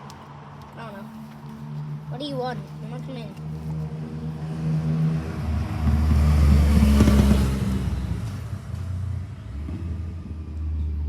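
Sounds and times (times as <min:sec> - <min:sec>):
motor vehicle passing by: 0:00.0 - 0:11.0.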